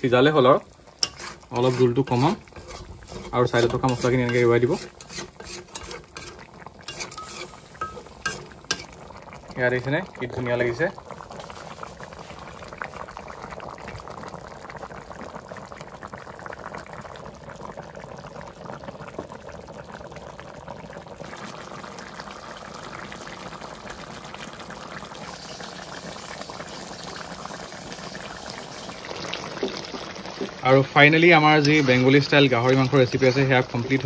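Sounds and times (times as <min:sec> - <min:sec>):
curry boiling and bubbling: 0:00.0 - 0:34.0.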